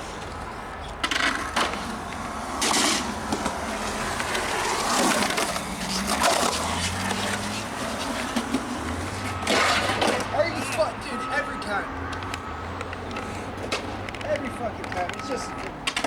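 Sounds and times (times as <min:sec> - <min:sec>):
skateboard rolling on concrete: 0:00.0 - 0:16.0.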